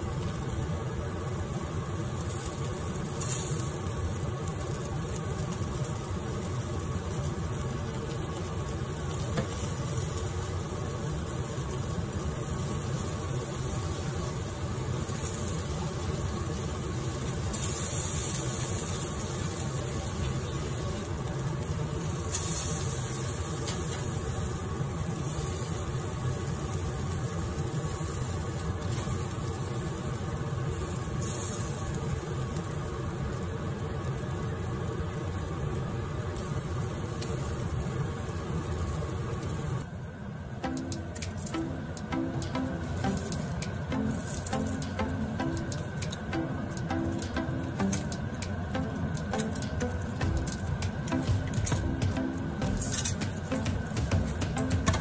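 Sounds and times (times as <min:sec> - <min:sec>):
fat sizzling: 0:00.0 - 0:39.9, 0:40.6 - 0:55.0
gas burner rumble: 0:00.0 - 0:55.0.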